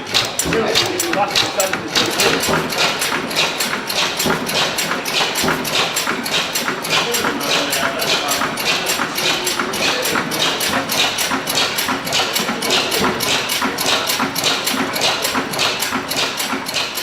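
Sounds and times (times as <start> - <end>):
stationary engine rhythmic clatter: 0.0 - 17.0.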